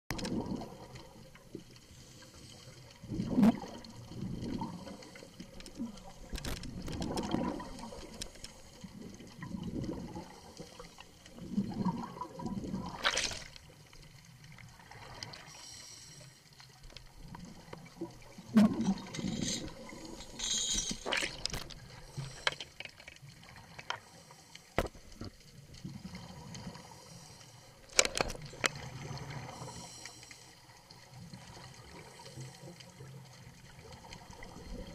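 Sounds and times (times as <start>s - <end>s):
scuba regulator bubbles underwater: 0.1s - 34.9s.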